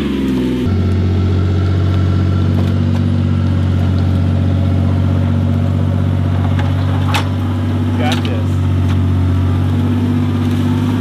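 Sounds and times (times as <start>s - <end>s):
utility vehicle engine droning: 0.0s - 11.0s.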